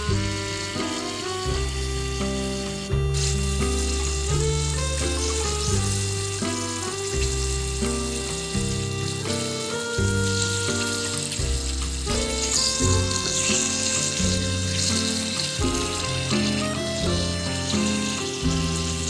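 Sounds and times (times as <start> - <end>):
background music of held notes: 0.0 - 19.0
fish frying in oil: 0.0 - 19.0.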